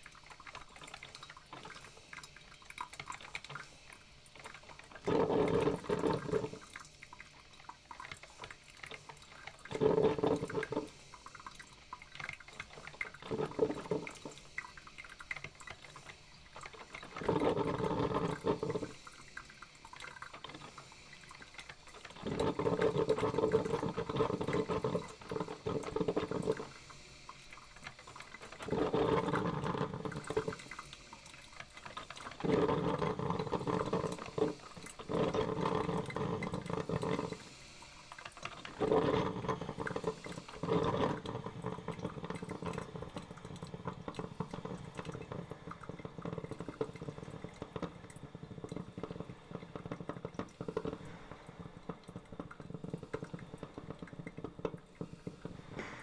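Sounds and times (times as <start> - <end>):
coffee maker brewing water: 0.0 - 56.0
crackling hiss: 3.4 - 56.0.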